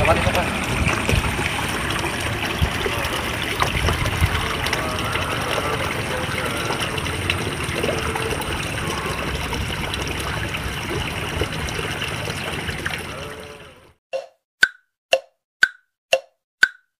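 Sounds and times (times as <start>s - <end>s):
water trickling in a ditch: 0.0s - 14.3s.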